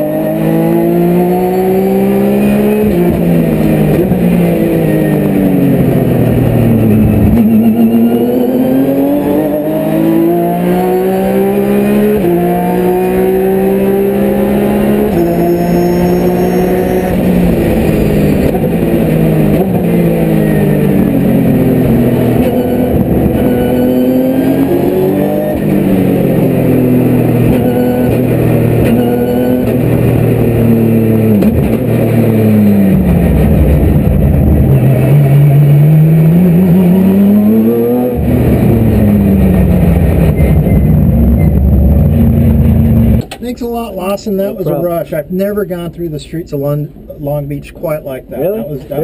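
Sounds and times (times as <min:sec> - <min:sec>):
race car engine revving: 0:00.0 - 0:43.4.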